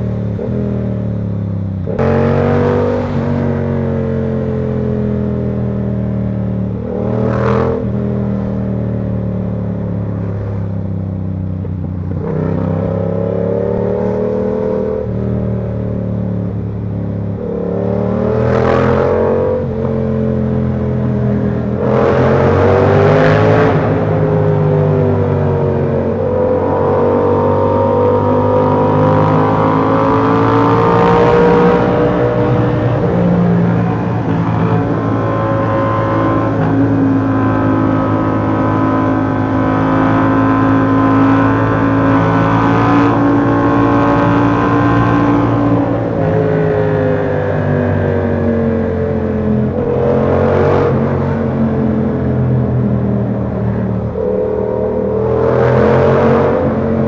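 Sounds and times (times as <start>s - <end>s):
motorcycle engine revving: 0.0s - 9.2s, 9.8s - 57.0s.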